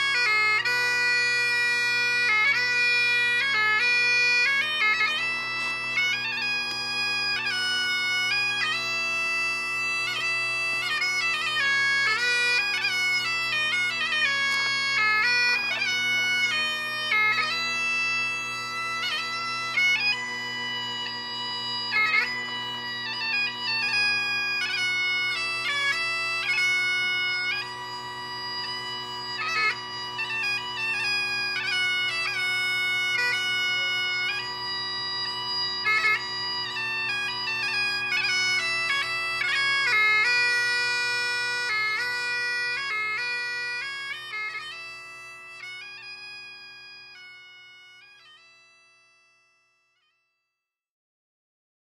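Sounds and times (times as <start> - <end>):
bagpipe drone: 0.0 - 50.2
bagpipe chanter melody: 0.0 - 50.4.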